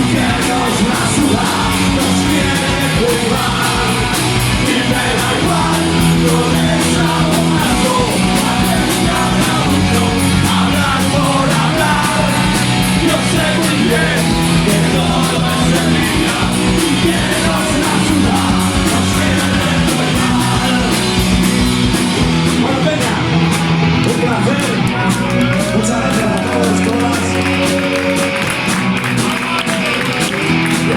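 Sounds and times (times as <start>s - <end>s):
shouted singing: 0.0s - 21.8s, 22.6s - 30.9s
punk rock band playing: 0.0s - 30.9s.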